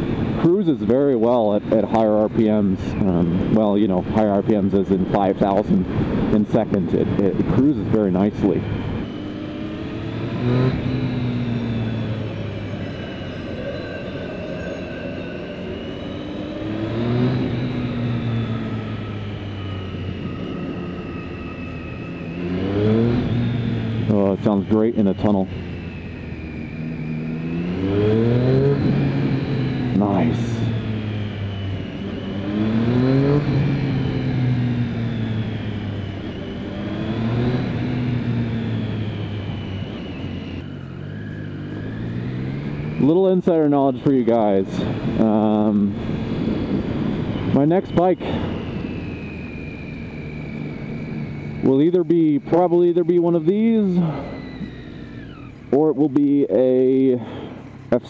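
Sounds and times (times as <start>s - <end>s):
motorcycle engine in tunnel: 0.0s - 58.0s.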